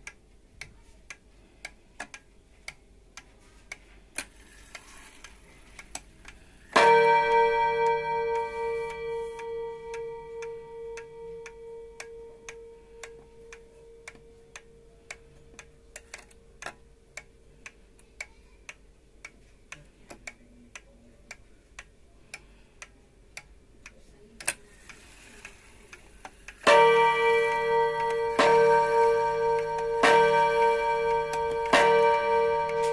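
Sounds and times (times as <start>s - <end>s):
clock ticking: 0.0s - 32.9s
sharp clock click: 0.0s - 32.9s.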